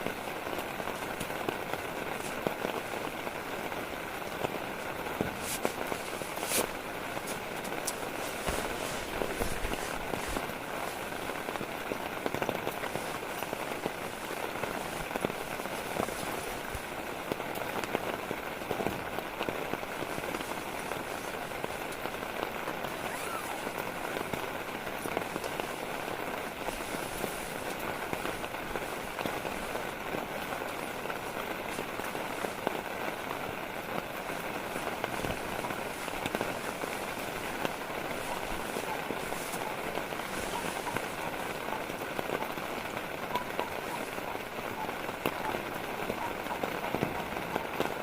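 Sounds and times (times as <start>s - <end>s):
steady rain patter: 0.0s - 48.0s.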